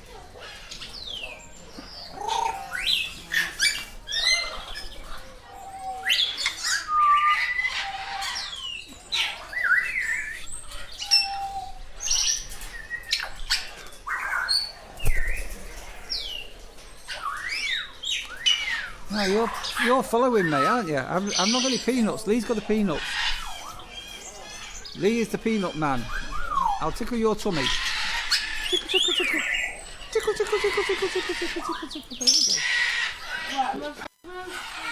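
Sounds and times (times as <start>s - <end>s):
parrots squawking and screeching: 0.0s - 34.9s.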